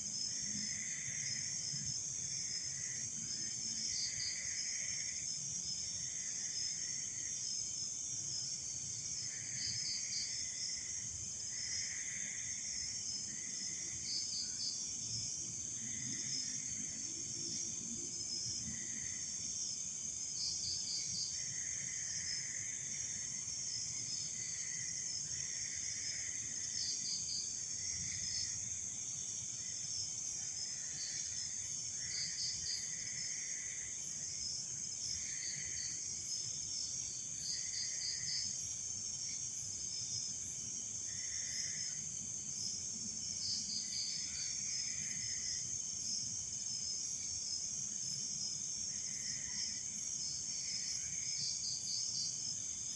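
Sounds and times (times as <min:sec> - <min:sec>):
crickets and insects trilling: 0:00.2 - 0:52.9.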